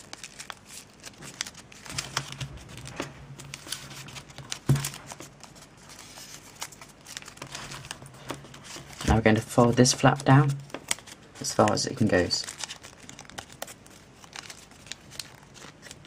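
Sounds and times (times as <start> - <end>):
paper crinkling and crackling: 0.0 - 16.0.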